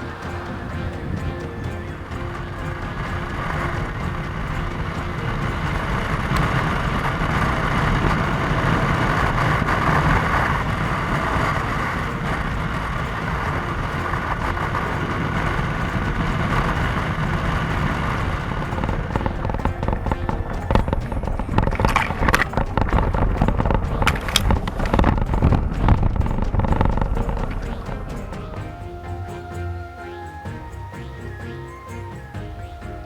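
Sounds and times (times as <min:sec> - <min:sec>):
motorcycle engine: 0:00.0 - 0:33.0
road and wind noise: 0:00.0 - 0:33.0.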